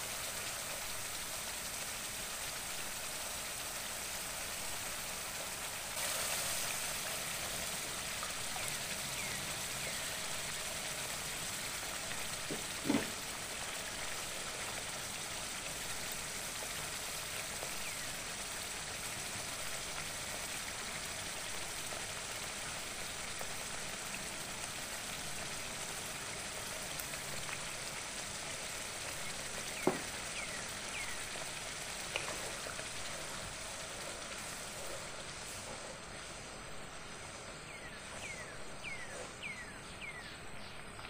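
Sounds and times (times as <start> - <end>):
chicken sizzling in oil: 0.0 - 40.2.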